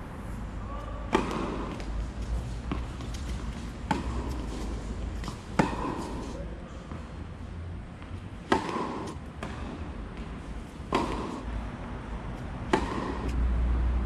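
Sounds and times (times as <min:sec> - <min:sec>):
racket hitting tennis ball: 0:01.0 - 0:07.1, 0:08.0 - 0:13.5.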